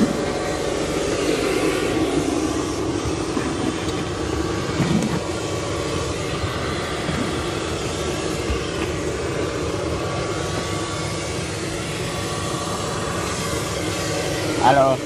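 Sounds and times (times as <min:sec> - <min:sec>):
faint whining tones: 0:00.0 - 0:14.7
jet engine rushing hum: 0:00.0 - 0:15.0.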